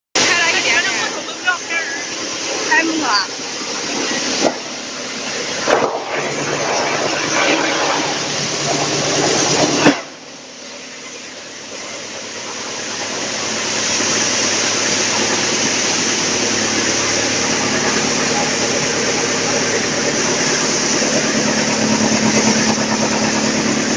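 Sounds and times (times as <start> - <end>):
wood chipper running: 0.2 - 23.9.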